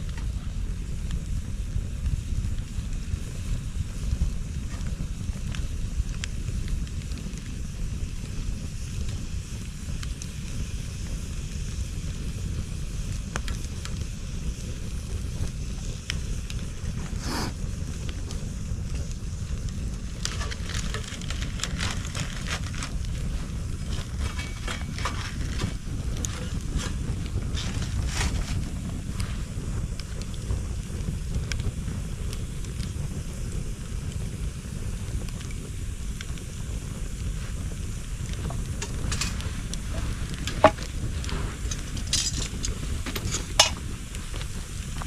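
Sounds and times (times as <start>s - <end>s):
bonfire crackling: 0.0s - 45.0s
wind rumbling on microphone: 0.0s - 45.0s.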